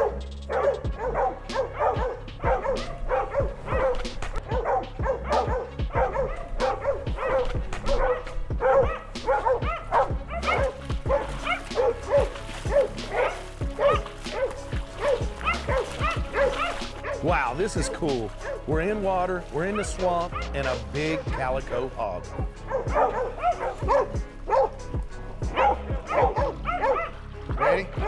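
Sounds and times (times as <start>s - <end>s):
dogs barking: 0.0s - 28.0s.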